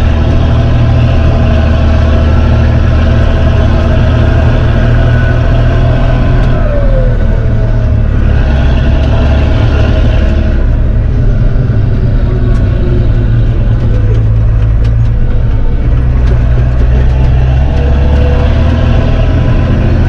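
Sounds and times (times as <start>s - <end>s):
tractor diesel engine drone: 0.0s - 20.0s.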